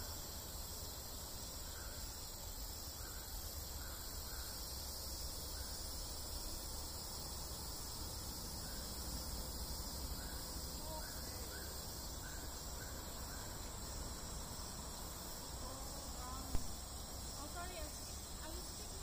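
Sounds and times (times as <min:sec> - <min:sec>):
bird chirping faintly: 0:00.0 - 0:19.0
high-pitched insect drone: 0:00.0 - 0:19.0.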